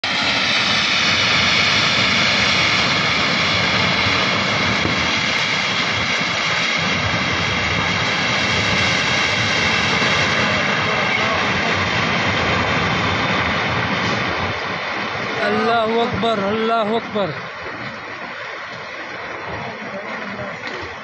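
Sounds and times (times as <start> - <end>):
river roaring in flood: 0.0 - 21.0.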